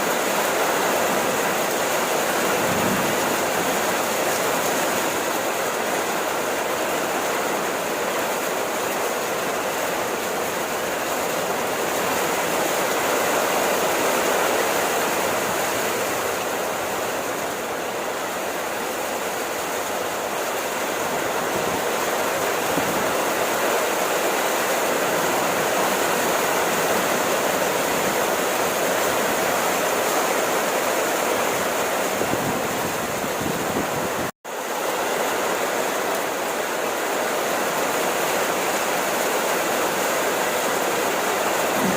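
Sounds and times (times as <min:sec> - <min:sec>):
dense rainfall: 0:00.0 - 0:41.9.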